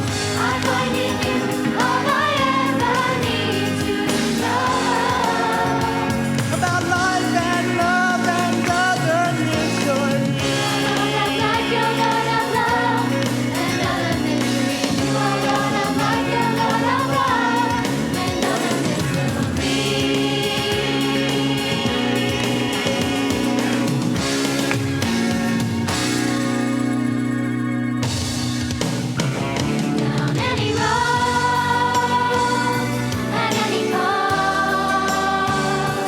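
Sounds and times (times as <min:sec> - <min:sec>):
youth choir singing: 0:00.0 - 0:24.4, 0:29.7 - 0:36.0
instrumental accompaniment: 0:00.0 - 0:36.0.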